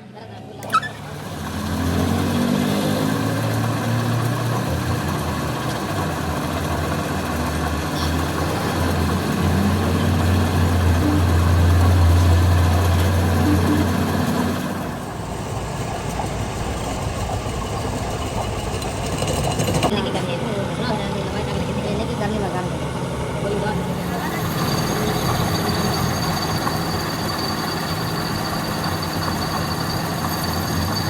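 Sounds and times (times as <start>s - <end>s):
heavy engine humming: 0.0s - 31.0s.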